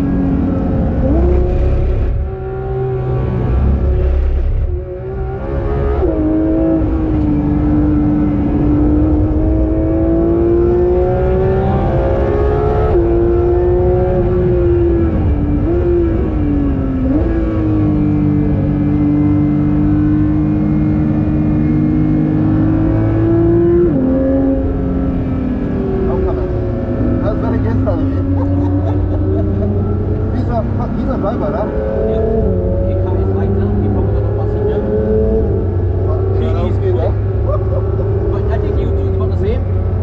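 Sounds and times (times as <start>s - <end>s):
car engine accelerating hard: 0.0s - 40.0s
road noise: 0.0s - 40.0s.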